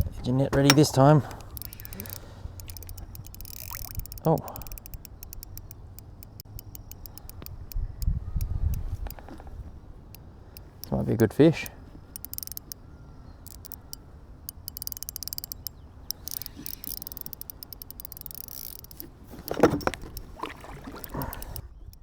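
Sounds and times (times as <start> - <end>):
fishing reel clicking: 0.7 - 9.3, 10.6 - 11.0, 11.6 - 12.8, 13.4 - 22.0.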